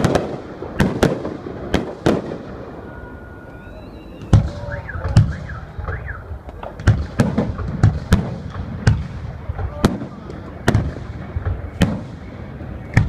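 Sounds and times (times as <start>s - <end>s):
fireworks bursting with bangs: 0.0s - 13.0s.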